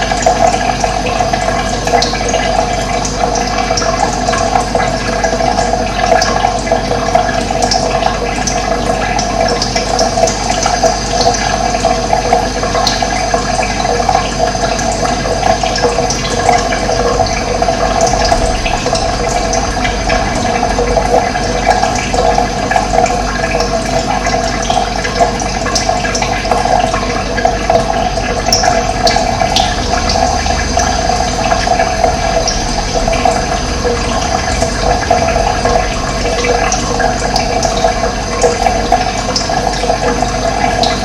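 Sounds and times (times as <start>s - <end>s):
running water rushing: 0.0s - 41.0s.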